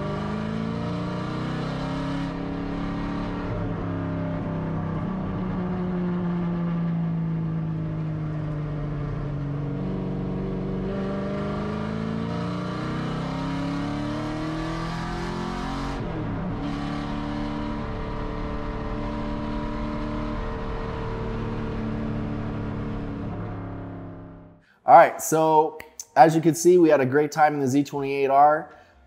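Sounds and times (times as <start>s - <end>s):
race car engine accelerating: 0.0s - 24.6s.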